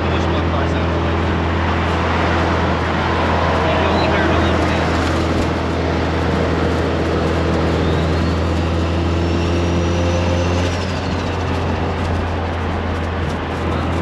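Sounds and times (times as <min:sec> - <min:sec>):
car engine and road drone: 0:00.0 - 0:14.0.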